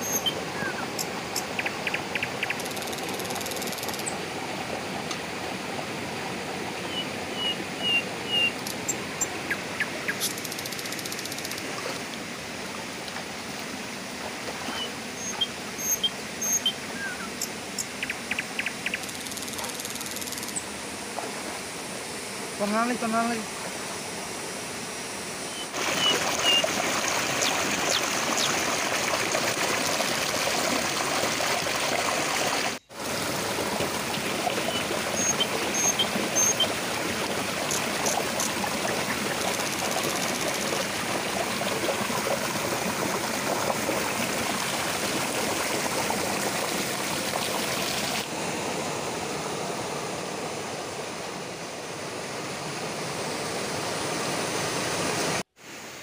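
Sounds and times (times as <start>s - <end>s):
stream rushing over boulders: 0.0s - 18.4s, 20.6s - 56.0s.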